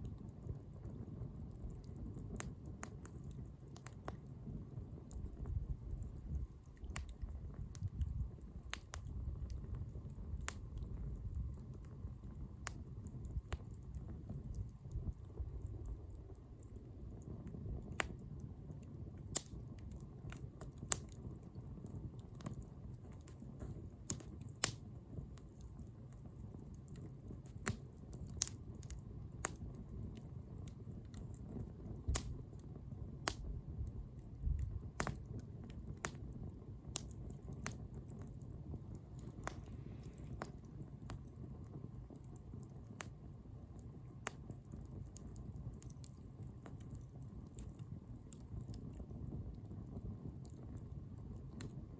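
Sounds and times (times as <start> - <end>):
bonfire crackling and popping: 0.0 - 51.9.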